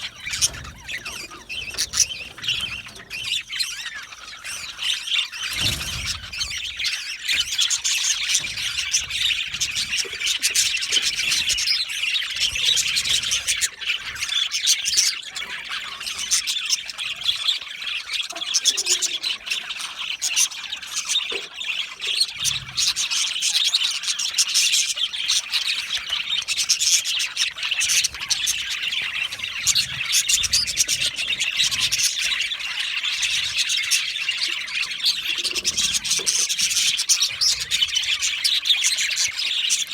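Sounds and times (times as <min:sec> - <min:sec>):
flock of budgerigars chirping: 0:00.0 - 0:39.9.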